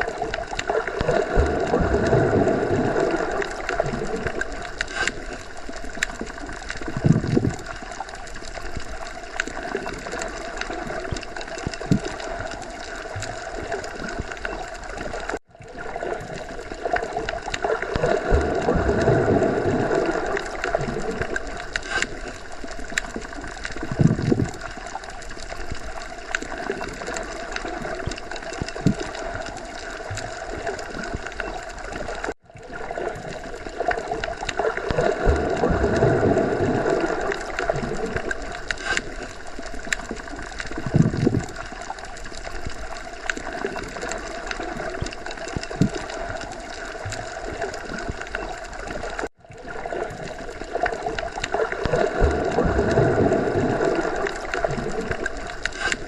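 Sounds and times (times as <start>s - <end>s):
underwater gurgling water: 0.0s - 56.0s.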